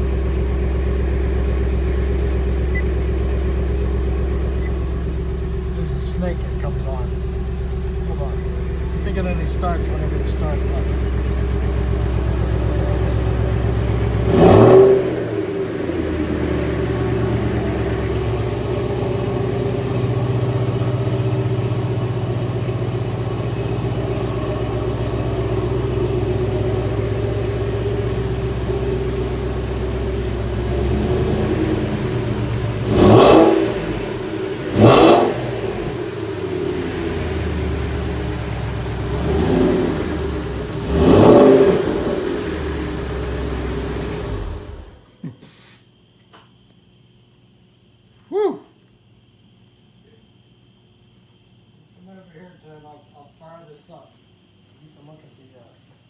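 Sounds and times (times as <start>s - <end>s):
car engine idling and revving: 0.0s - 45.1s.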